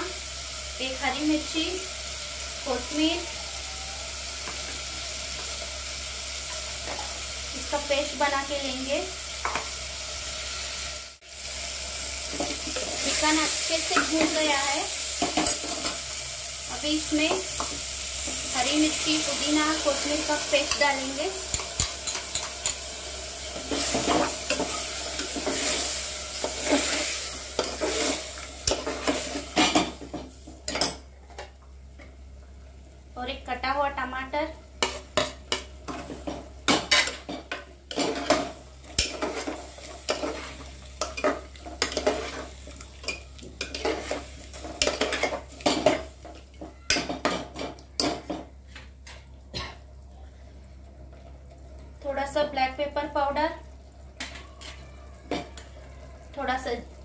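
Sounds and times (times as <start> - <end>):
food sizzling: 0.0 - 50.0, 50.6 - 57.0.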